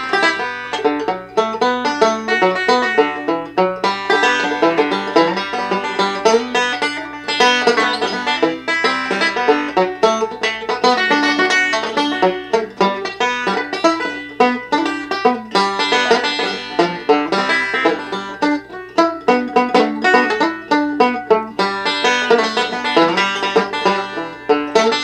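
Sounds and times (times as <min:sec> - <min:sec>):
banjo picking bluegrass tune: 0:00.0 - 0:25.0.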